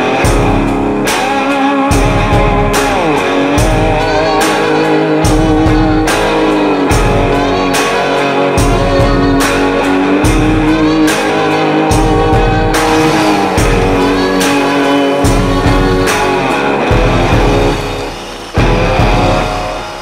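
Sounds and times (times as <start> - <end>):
guitar with bending notes: 0.0 - 20.0
steady drum beat: 0.0 - 20.0.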